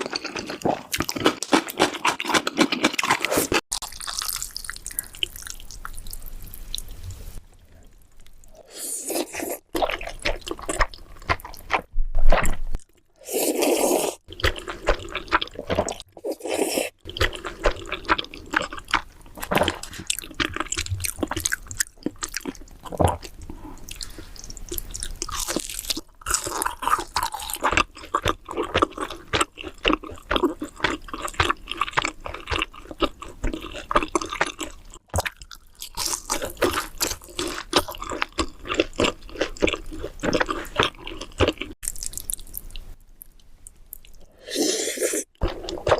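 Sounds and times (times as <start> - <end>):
wet chewing of noodles: 0.0 - 7.1, 7.9 - 45.9.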